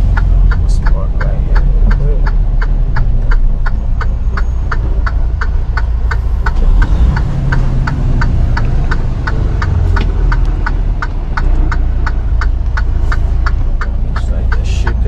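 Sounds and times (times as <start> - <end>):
truck engine rumbling: 0.0 - 15.0
turn signal ticking: 0.0 - 15.0.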